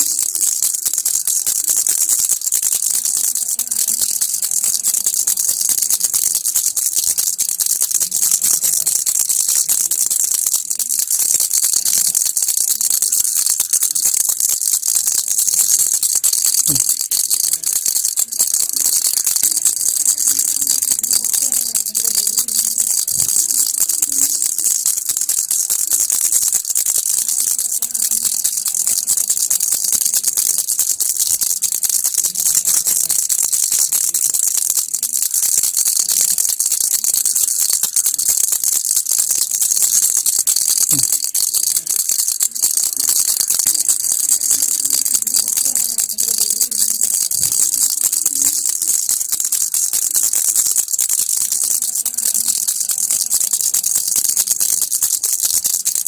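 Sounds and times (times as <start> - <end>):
baby rattle shaking: 0.0 - 56.0.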